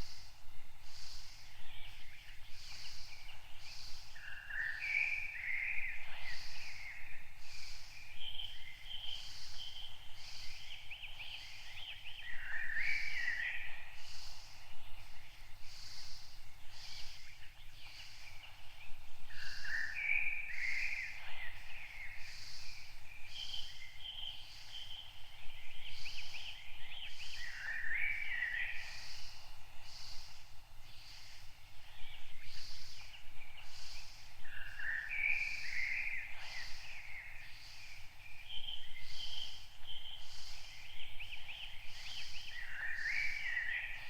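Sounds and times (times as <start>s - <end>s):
birds chirping: 0.0s - 44.0s
soft high hiss: 0.0s - 44.0s.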